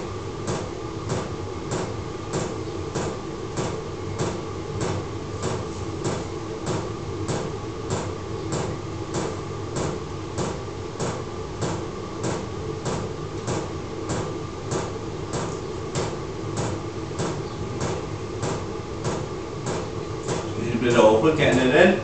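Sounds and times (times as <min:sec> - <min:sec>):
heater blower hum: 0:00.0 - 0:22.0.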